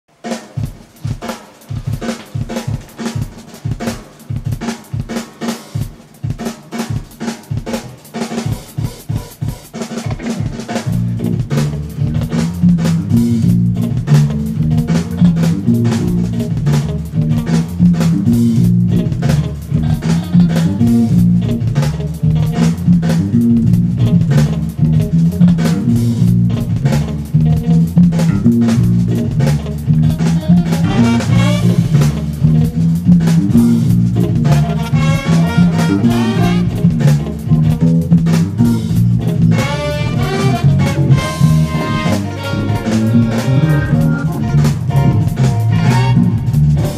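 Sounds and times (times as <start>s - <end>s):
funk drum groove: 0.1s - 46.9s
funk electric bass line: 6.0s - 46.9s.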